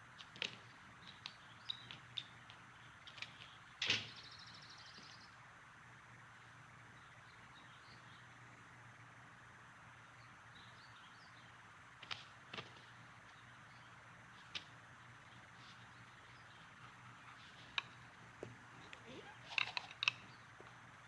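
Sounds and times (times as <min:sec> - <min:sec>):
steady background ambience: 0:00.0 - 0:21.0.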